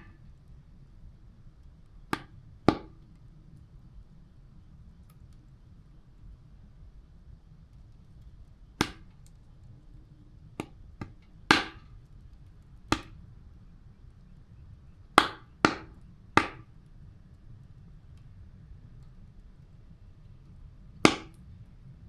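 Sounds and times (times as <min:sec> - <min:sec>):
campfire wood popping: 0:00.0 - 0:22.0.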